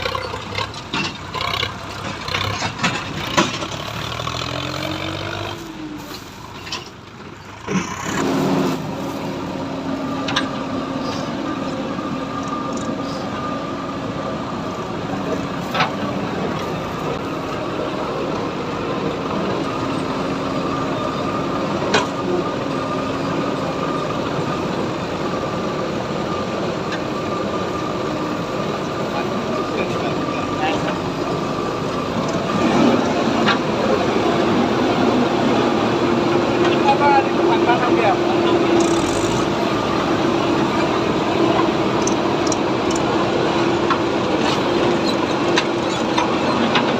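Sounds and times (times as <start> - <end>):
diesel tractor engine running: 0.0 - 46.9.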